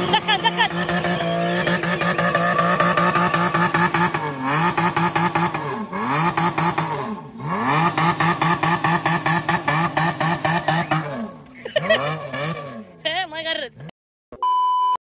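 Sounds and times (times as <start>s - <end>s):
pickup truck engine revving: 0.0s - 13.0s.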